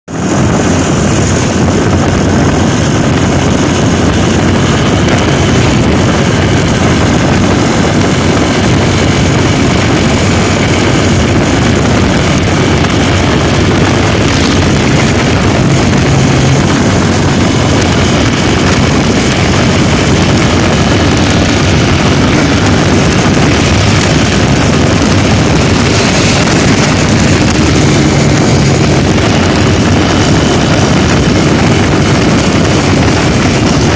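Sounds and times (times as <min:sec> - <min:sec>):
locomotive moving at speed: 0:00.1 - 0:33.9
motorcycle running: 0:00.1 - 0:33.9.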